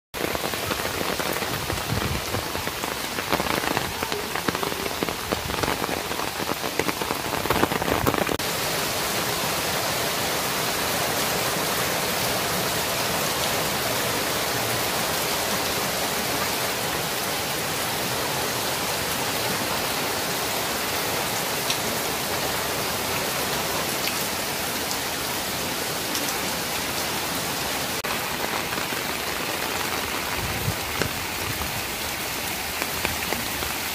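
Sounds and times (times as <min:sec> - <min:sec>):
heavy rain on water: 0:00.1 - 0:33.9
close raindrops striking: 0:00.2 - 0:33.9.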